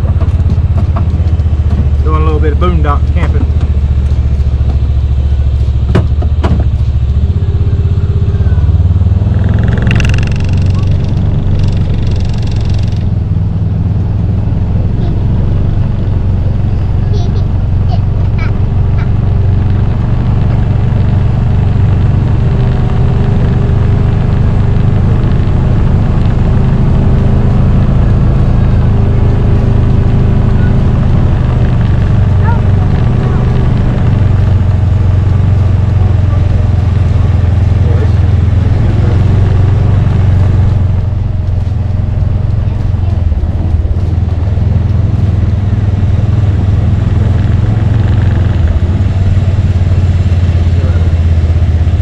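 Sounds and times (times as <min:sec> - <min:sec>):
road noise: 0:00.0 - 0:52.0
vehicle engine humming: 0:00.0 - 0:52.0.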